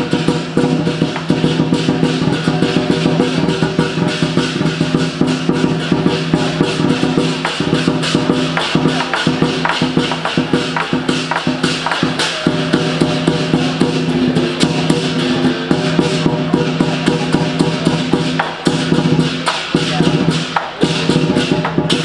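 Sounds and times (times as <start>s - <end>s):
cymbals clashing: 0.0s - 22.0s
large drum beating fast: 0.0s - 22.0s.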